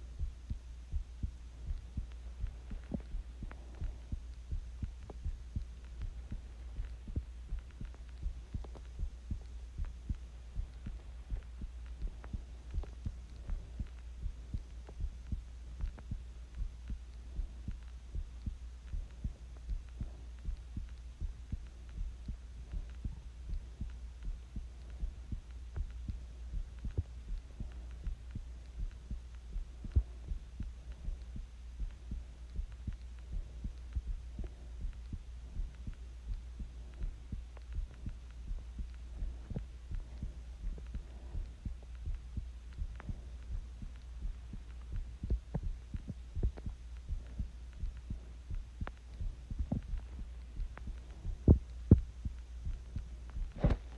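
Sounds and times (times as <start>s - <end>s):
constant low hum: 0.0s - 53.9s
heartbeat thumping: 0.0s - 53.9s.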